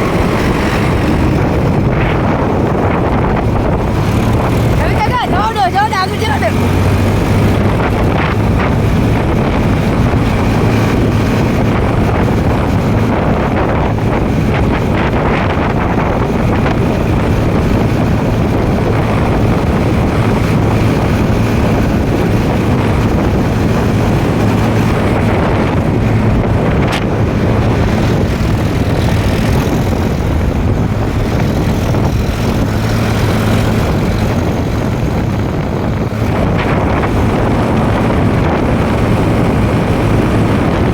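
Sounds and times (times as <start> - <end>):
tractor engine droning: 0.0 - 40.9
wind buffeting microphone: 0.0 - 40.9.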